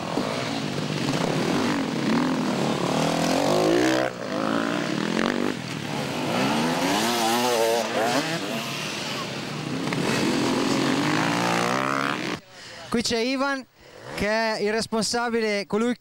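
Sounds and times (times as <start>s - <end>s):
dirt bike engines revving: 0.0s - 12.9s.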